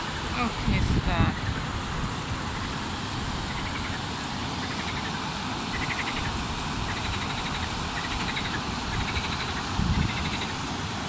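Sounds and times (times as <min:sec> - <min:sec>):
water rushing over a weir: 0:00.0 - 0:11.0.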